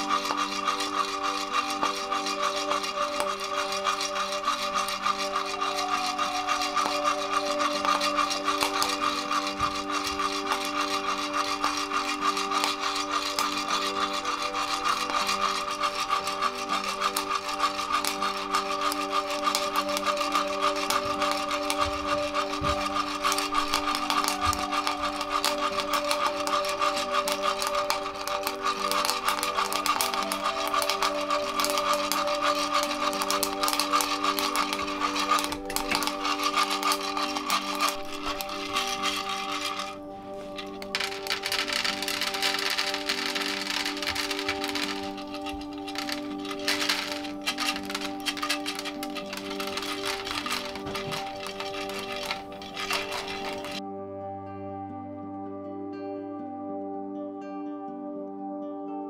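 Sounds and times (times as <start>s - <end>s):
coffee beans rattling in metal roaster: 0.0s - 53.8s.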